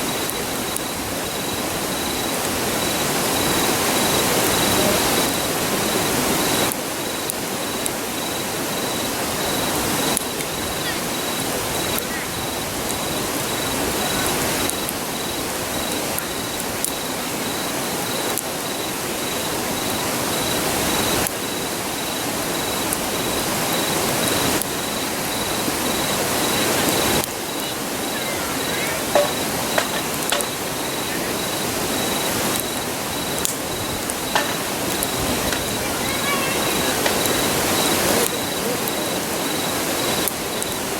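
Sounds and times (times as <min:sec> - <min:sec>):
campfire popping: 0:00.0 - 0:40.9
insect chirping: 0:00.0 - 0:40.9
river rushing: 0:00.0 - 0:40.9.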